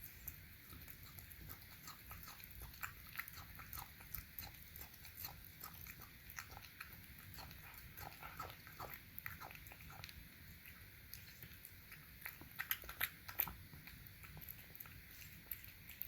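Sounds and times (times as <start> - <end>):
cat chewing wet food: 0.0 - 16.0.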